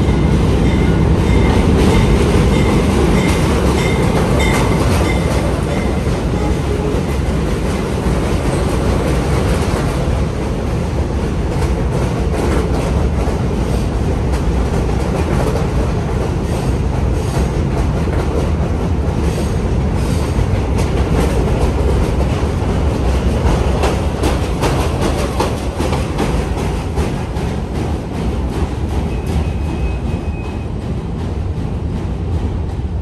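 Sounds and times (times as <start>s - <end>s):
steel wheels rumbling on rail: 0.0s - 33.0s
wheels clacking over rail joints: 0.6s - 19.4s, 20.0s - 32.9s.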